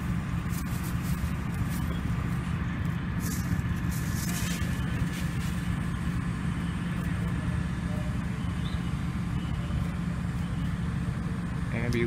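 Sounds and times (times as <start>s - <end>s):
large vehicle engine idling: 0.0s - 12.0s.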